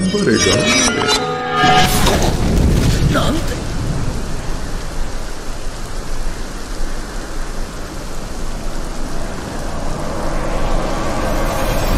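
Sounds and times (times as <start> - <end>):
low rumble: 0.7 - 11.9
rain-like rush of noise: 1.7 - 11.9.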